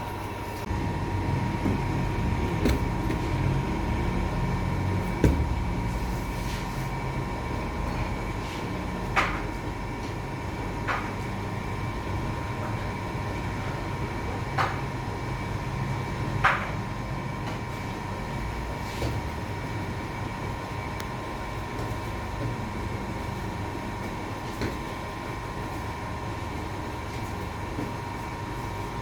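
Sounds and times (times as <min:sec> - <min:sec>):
machine hum and rumble: 0:00.0 - 0:29.0.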